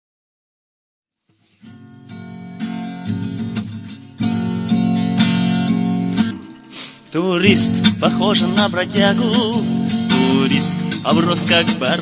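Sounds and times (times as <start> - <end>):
acoustic guitar strumming chords: 1.4 - 12.0.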